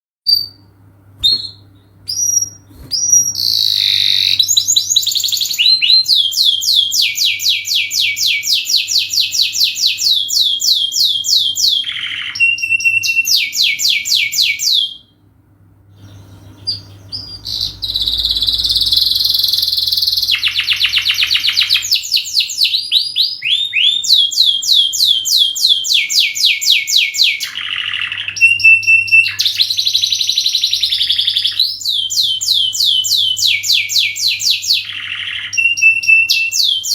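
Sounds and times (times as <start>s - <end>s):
canary singing trills: 0.3s - 15.1s, 15.9s - 36.9s.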